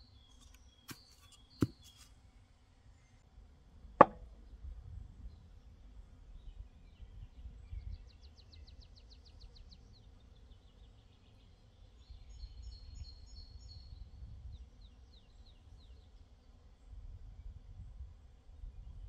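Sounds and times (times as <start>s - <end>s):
songbirds singing: 0.0s - 3.2s, 5.2s - 17.6s.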